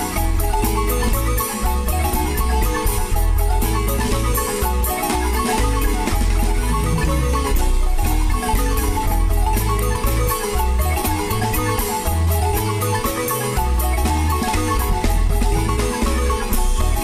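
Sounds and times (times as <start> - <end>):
marimba music: 0.0 - 17.0
pulsing bass line: 0.0 - 17.0.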